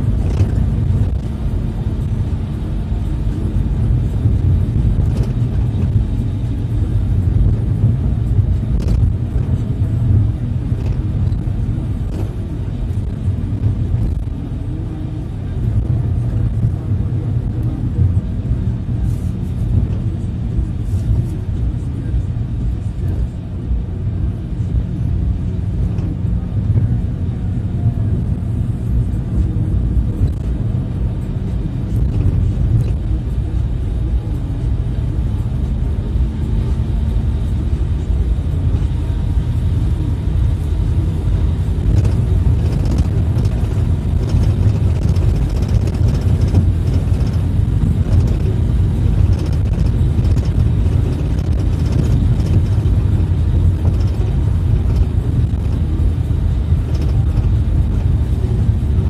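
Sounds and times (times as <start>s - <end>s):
vehicle engine and tyres rumbling: 0.0s - 59.0s.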